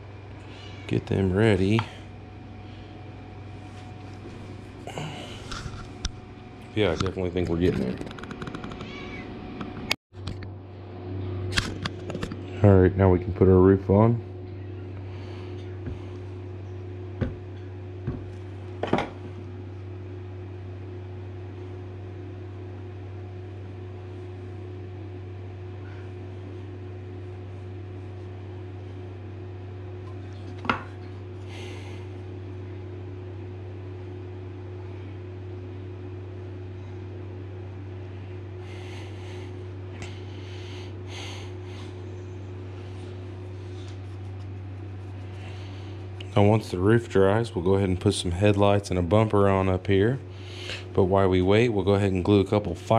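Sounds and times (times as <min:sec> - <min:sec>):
low electrical hum: 0:00.0 - 0:52.9.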